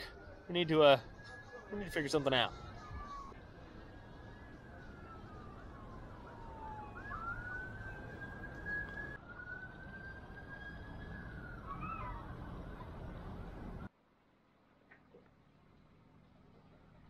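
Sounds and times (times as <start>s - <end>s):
emergency vehicle siren wailing: 0.0s - 13.9s.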